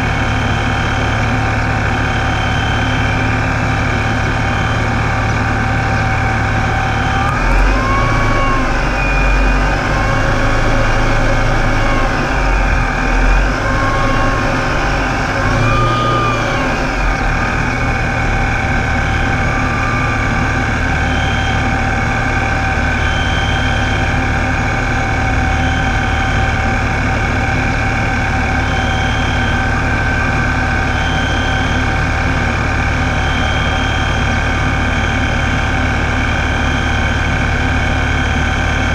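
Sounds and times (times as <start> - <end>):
engine idling: 0.0 - 38.9
supercharger whine: 0.0 - 38.9.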